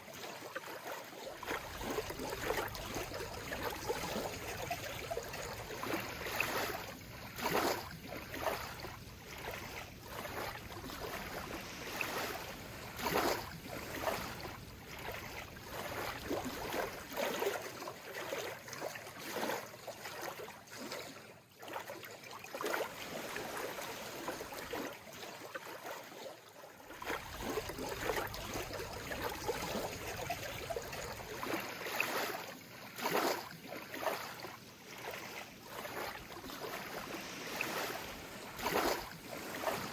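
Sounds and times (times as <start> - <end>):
seawater lapping and splashing: 0.0 - 39.9.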